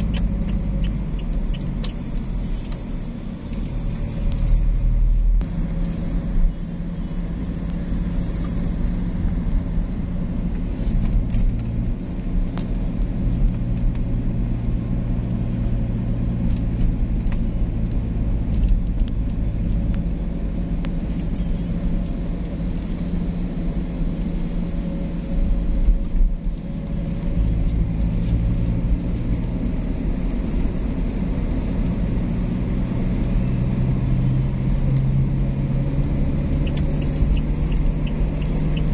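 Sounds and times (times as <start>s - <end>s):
car engine hum: 0.0s - 38.9s
tyres rumbling on road: 0.0s - 38.9s.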